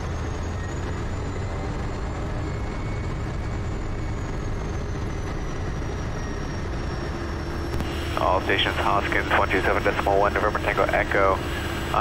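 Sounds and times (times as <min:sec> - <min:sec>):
turboprop engine running: 0:00.0 - 0:12.0.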